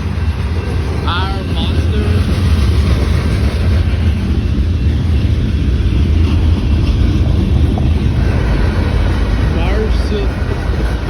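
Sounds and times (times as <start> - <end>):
passing train rumble: 0.0 - 11.0.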